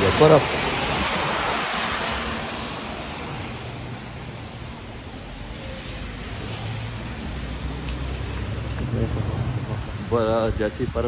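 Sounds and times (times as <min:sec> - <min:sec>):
bus driving past on wet street: 0:00.0 - 0:11.0
street noise: 0:00.0 - 0:11.0.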